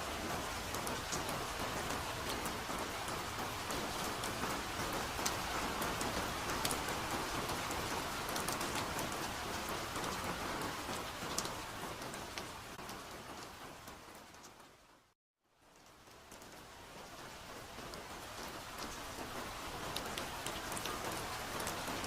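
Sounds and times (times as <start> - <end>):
soft rain falling: 0.0 - 22.0.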